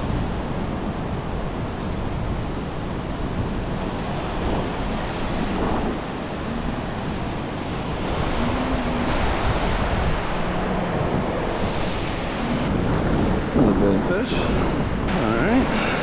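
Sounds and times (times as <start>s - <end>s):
ocean surf on beach: 0.0s - 16.0s
wind buffeting microphone: 0.0s - 16.0s.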